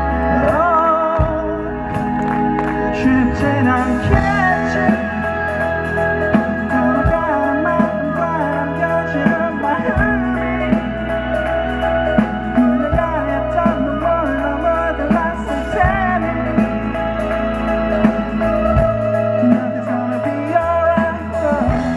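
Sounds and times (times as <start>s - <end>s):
rock band playing live: 0.0s - 21.9s.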